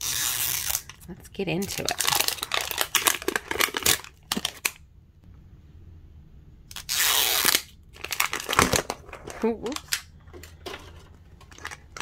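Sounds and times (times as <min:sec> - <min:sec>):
plastic wrapping crinkling and tearing: 0:00.0 - 0:04.8, 0:06.7 - 0:12.0.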